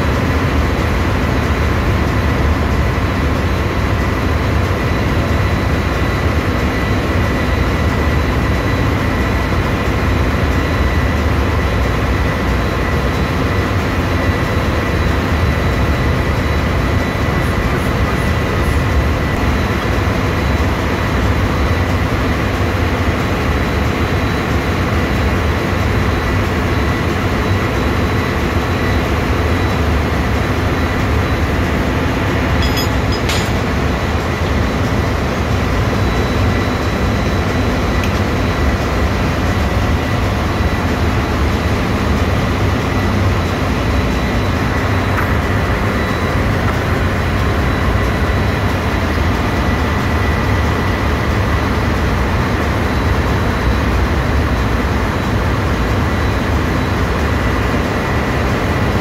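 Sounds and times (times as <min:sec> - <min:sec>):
diesel generators droning: 0:00.0 - 0:59.0
thin steady whine: 0:00.0 - 0:59.0.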